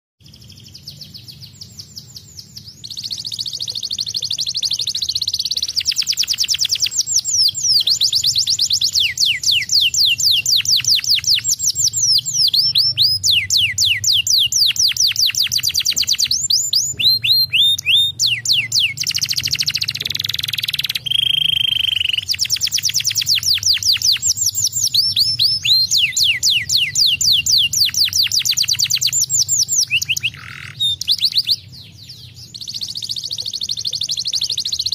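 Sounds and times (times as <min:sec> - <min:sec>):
canary singing: 0:00.2 - 0:34.9.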